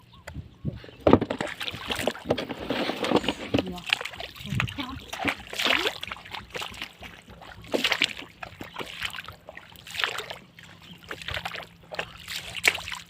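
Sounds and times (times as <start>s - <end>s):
muddy water splashing: 1.1s - 13.0s.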